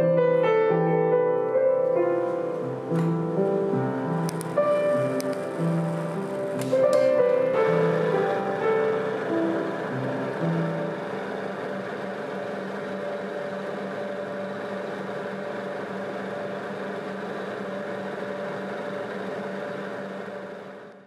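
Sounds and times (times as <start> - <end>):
film projector whirring: 0.0 - 21.0.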